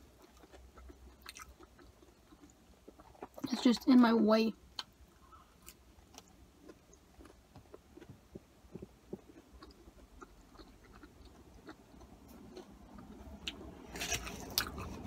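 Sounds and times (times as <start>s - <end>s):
faint closed-mouth chewing: 0.1s - 3.6s, 4.8s - 15.0s.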